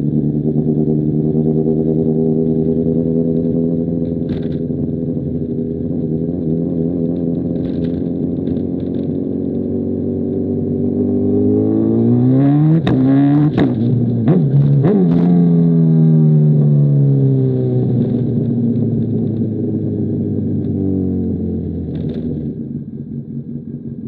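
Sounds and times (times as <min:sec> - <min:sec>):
motorcycle accelerating hard: 0:00.0 - 0:22.8.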